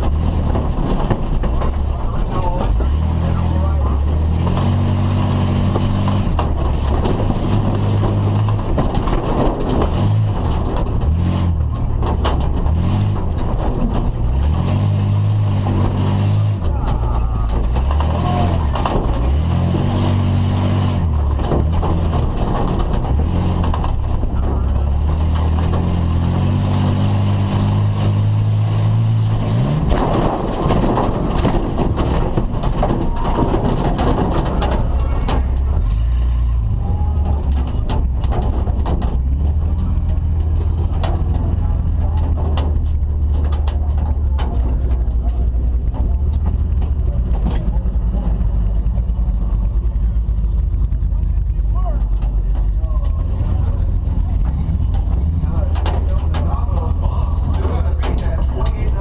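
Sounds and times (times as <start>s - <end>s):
knocks and rattles: 0.0s - 59.0s
truck engine revving hard: 0.0s - 59.0s.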